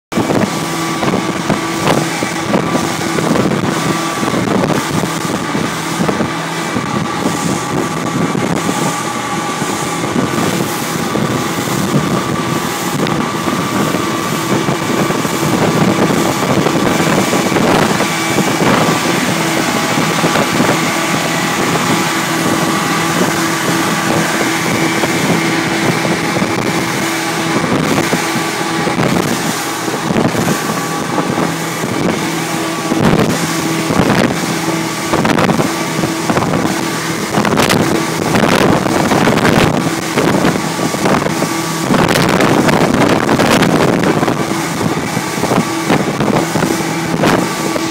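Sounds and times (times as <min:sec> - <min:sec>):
boat engine running: 0:00.0 - 0:47.9
water rushing against hull: 0:00.0 - 0:47.9
wind buffeting microphone: 0:00.1 - 0:47.9.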